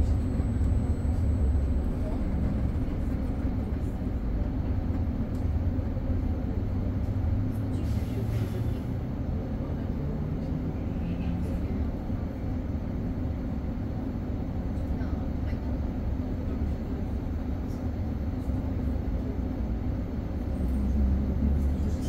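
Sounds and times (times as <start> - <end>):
electric bus low rumble: 0.0 - 22.0.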